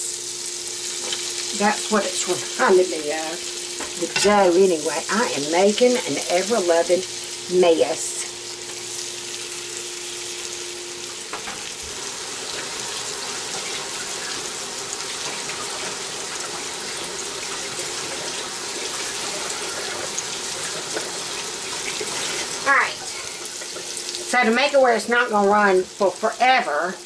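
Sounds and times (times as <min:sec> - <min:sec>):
food sizzling in skillet: 0:00.0 - 0:27.0.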